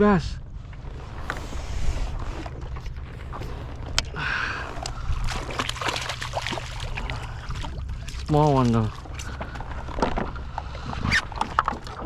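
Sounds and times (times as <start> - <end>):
water sloshing and dripping: 0.5 - 12.0.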